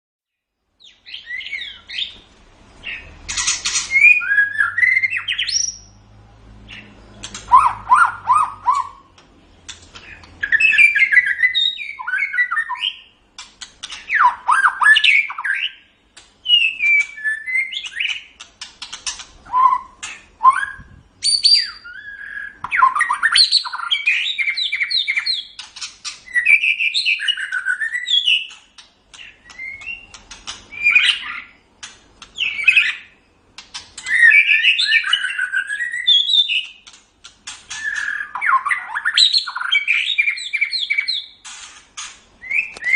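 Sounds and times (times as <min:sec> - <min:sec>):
songbird whistling and chattering: 0:02.8 - 0:05.9, 0:06.7 - 0:09.2, 0:10.0 - 0:13.1, 0:13.8 - 0:31.7, 0:32.4 - 0:33.2, 0:34.0 - 0:37.0, 0:37.7 - 0:41.8, 0:42.4 - 0:42.9.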